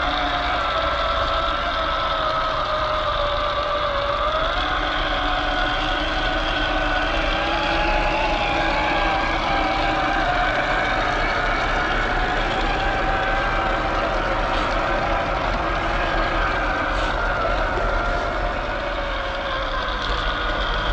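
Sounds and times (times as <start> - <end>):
electric motor whining: 2.0 - 20.9.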